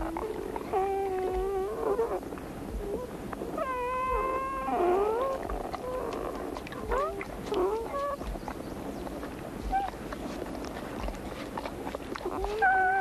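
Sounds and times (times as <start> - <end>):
wolf pups whining: 0.0 - 13.0.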